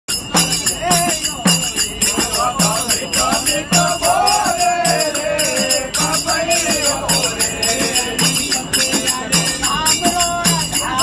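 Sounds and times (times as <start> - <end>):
jingling hand percussion: 0.1 - 11.0
group singing devotional song: 0.6 - 11.0.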